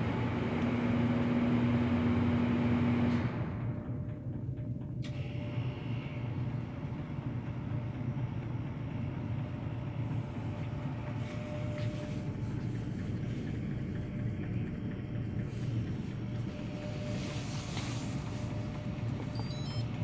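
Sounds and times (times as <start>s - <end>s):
shaker incubator running: 3.9s - 20.0s.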